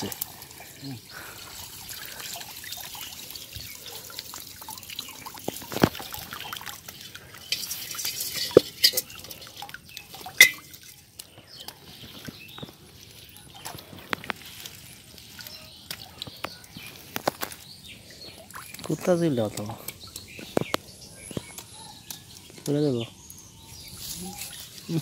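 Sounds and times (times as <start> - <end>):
water pouring and dripping: 0.0 - 25.0.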